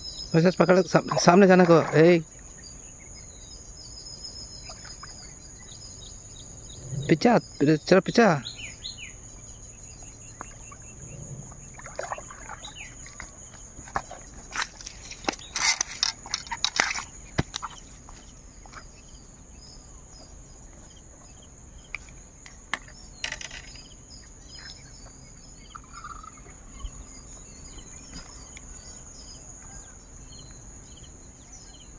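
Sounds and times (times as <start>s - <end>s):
crickets chirring: 0.0s - 31.9s.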